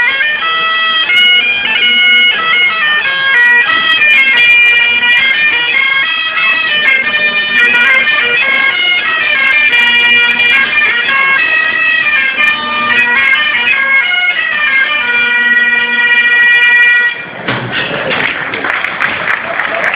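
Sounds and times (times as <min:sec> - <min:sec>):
bagpipe with drone: 0:00.0 - 0:17.4
bombarde melody: 0:00.0 - 0:17.9.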